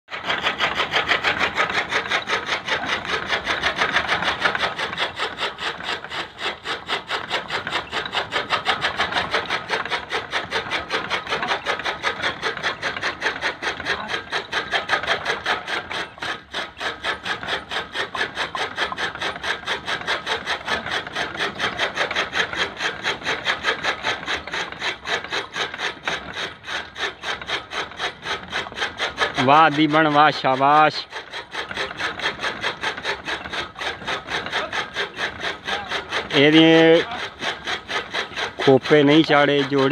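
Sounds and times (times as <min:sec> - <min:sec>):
chaff cutter chopping fodder: 0:00.1 - 0:39.9.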